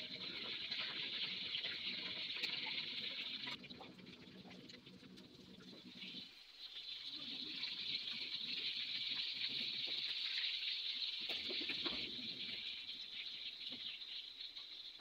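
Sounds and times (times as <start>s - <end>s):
squid rings deep-frying in oil: 0.0s - 15.0s.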